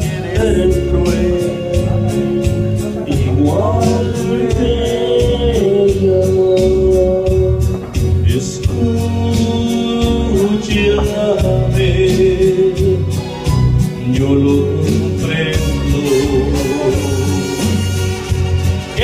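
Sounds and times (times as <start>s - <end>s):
amplified backing music: 0.0s - 19.0s
man singing a ballad: 0.0s - 19.0s.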